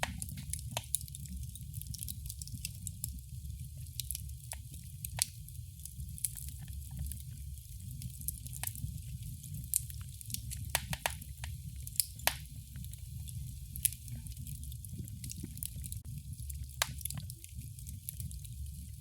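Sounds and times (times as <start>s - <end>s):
burning fire rumble: 0.0s - 19.0s
fire pops and snaps: 0.0s - 19.0s.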